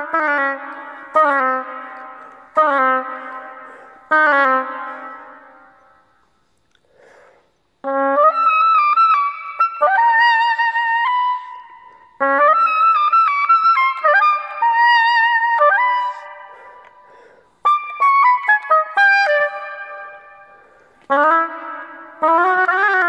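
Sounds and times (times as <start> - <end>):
solo oboe in reverberant room: 0.0 - 23.0.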